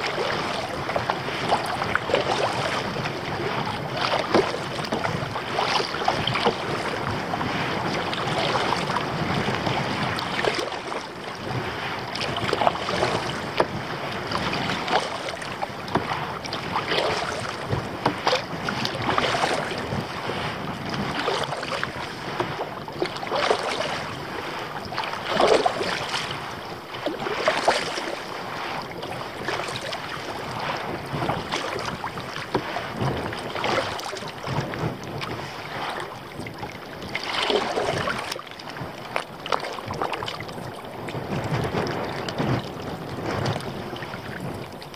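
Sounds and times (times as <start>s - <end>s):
paddle strokes splashing water: 0.0s - 44.9s
wind buffeting microphone: 0.0s - 44.9s.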